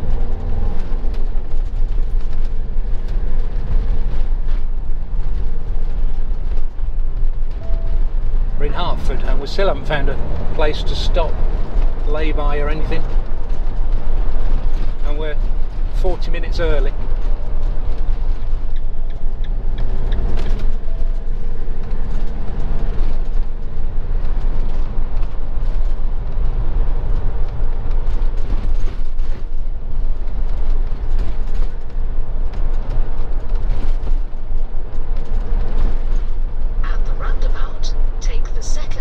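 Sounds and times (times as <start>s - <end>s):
engine and road noise drone: 0.0s - 39.0s.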